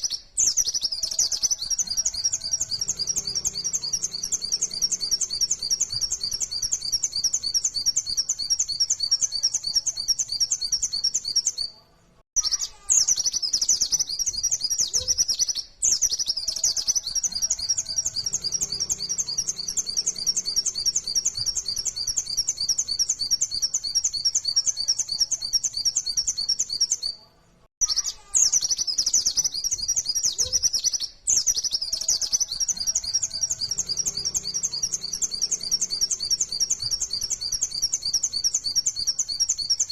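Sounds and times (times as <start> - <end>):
bird singing high chirps: 0.0 - 11.8, 12.4 - 39.9.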